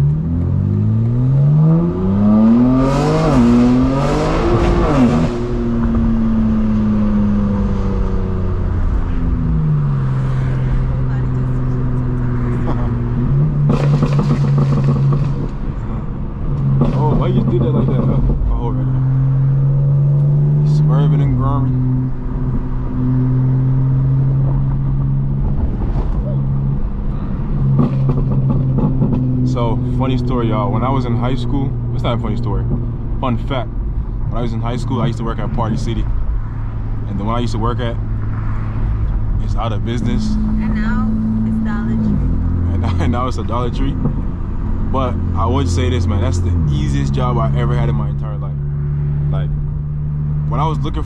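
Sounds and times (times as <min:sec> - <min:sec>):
car engine accelerating hard: 0:00.0 - 0:51.0
raspy exhaust: 0:00.0 - 0:51.0.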